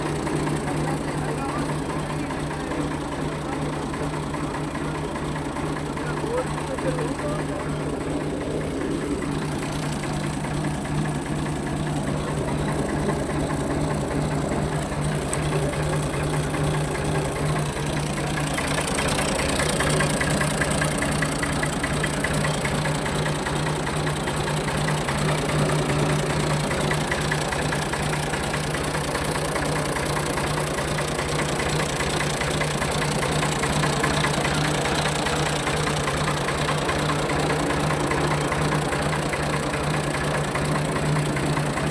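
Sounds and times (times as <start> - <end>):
tractor engine idling: 0.0 - 41.9.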